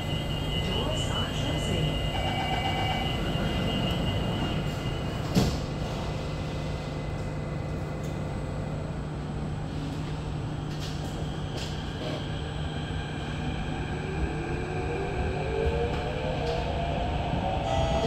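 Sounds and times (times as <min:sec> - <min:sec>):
metro train interior hum: 0:00.0 - 0:18.0.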